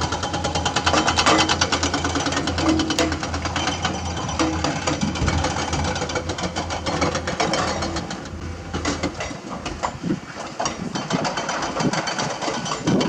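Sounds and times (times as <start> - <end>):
diesel earthmoving machinery running: 0.0 - 13.0
sharp metal clanks and knocks: 0.1 - 13.0.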